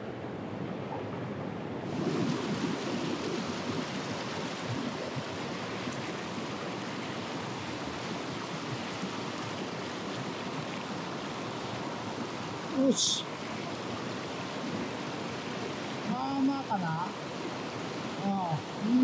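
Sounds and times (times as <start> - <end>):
stream water rushing over rocks: 1.8 - 19.0.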